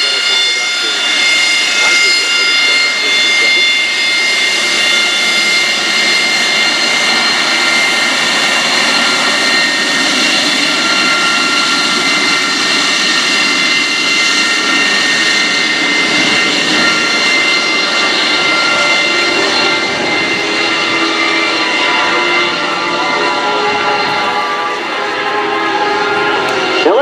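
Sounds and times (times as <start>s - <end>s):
jet engine roar with whine: 0.0s - 27.0s.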